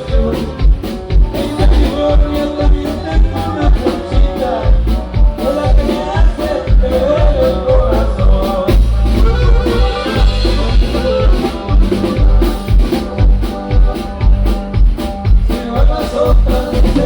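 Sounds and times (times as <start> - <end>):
band playing upbeat song: 0.0 - 17.0.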